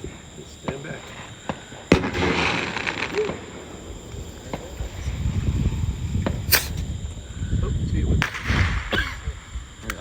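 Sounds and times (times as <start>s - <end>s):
firework crack: 0.0s - 7.2s, 8.2s - 10.0s
firework hiss: 0.0s - 10.0s.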